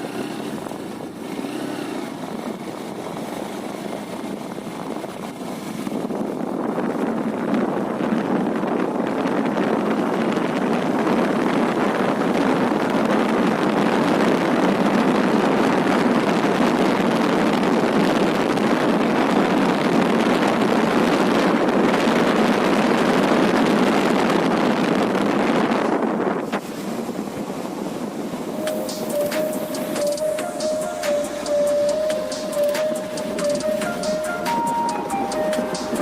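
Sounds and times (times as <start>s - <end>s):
road noise: 0.0s - 36.0s
wind buffeting microphone: 0.0s - 36.0s.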